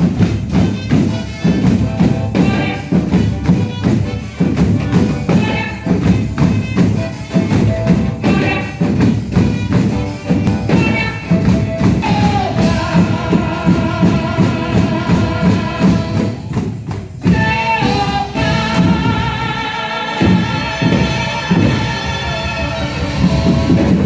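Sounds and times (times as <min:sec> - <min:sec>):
tambourines shaken and struck: 0:00.0 - 0:24.0
worship band music: 0:00.0 - 0:24.0.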